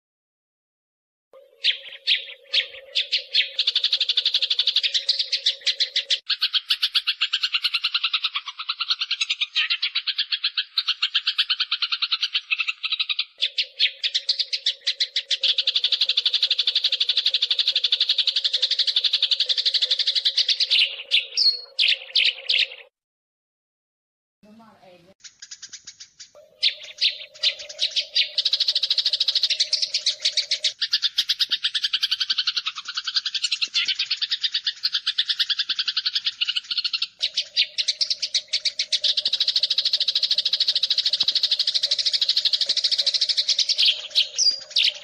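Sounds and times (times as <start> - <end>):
sparrows chirping harshly: 1.4 - 22.9, 24.6 - 45.0.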